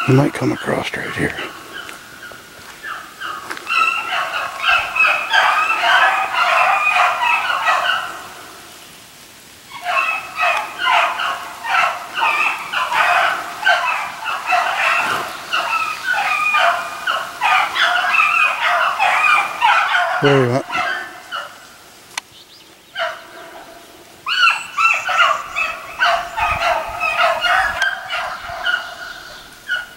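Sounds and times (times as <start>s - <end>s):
hounds baying: 0.0s - 8.6s, 9.7s - 21.8s, 22.9s - 29.9s.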